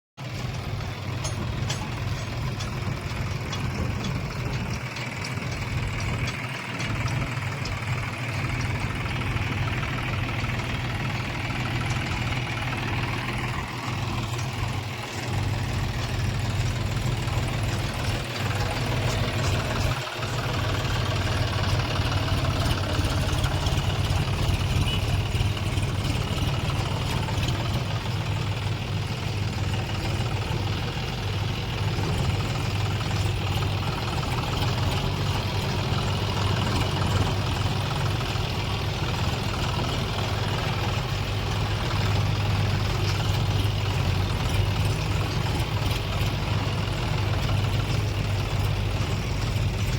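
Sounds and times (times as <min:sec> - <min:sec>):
diesel engine running: 0:00.2 - 0:49.9.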